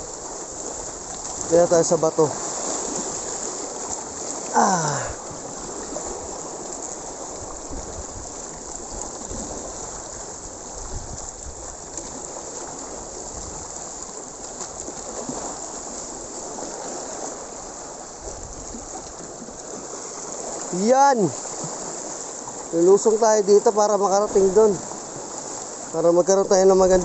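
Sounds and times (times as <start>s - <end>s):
seawater washing against rocks: 0.0s - 27.0s.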